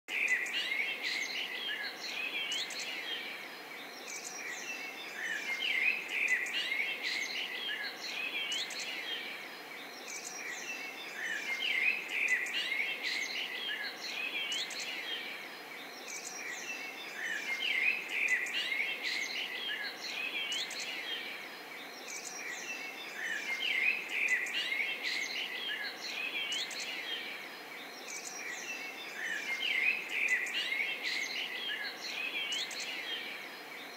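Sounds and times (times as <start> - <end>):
soft steady hiss: 0.1 - 33.9
songbirds chirping and whistling: 0.1 - 33.9.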